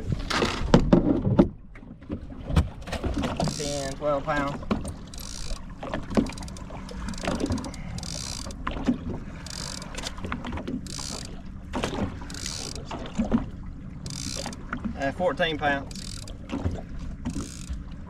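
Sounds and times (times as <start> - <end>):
fishing gear knocking and rattling: 0.1 - 1.5, 2.6 - 13.0, 14.0 - 14.8, 15.8 - 17.8.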